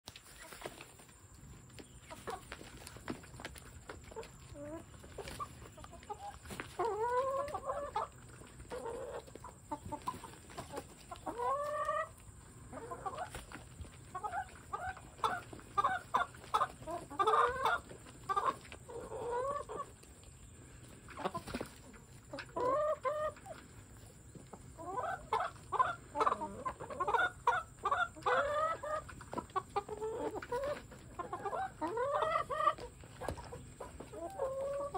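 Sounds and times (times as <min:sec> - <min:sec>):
hens clucking: 0:00.1 - 0:34.9.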